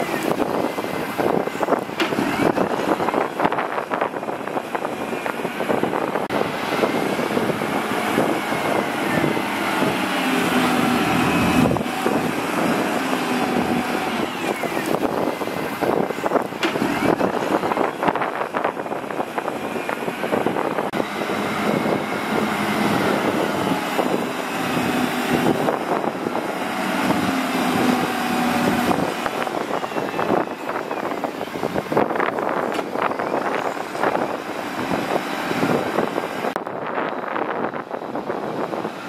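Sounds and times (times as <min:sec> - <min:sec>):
diesel engine working under load: 0:00.0 - 0:39.0.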